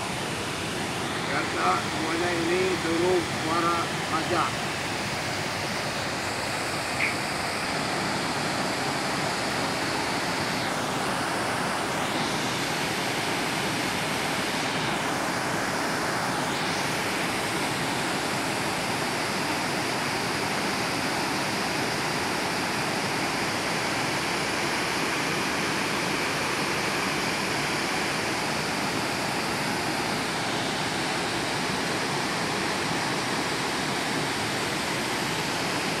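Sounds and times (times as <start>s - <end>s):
river rapids: 0.0s - 36.0s
waterfall rushing: 0.0s - 36.0s.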